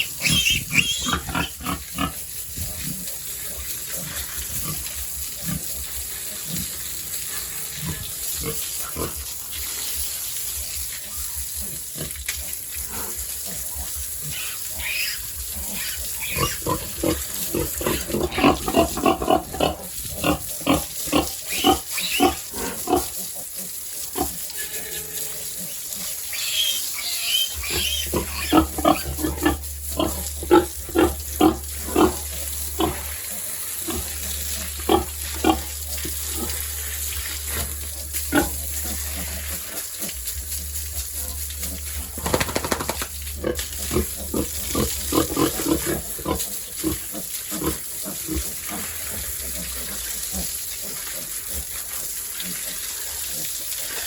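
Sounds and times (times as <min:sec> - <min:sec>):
pigs grunting: 0:00.0 - 0:09.6, 0:11.1 - 0:24.5, 0:25.2 - 0:54.0.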